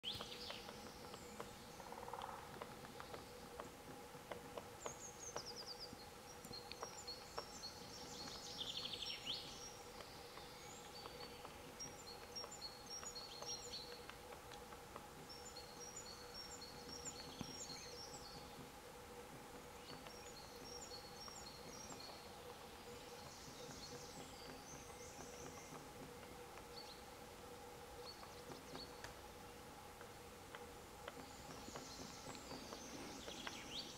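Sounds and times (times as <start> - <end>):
faint steady hum: 0.0 - 33.9
songbird singing: 0.0 - 33.9
woodpecker pecking bark: 0.0 - 33.9.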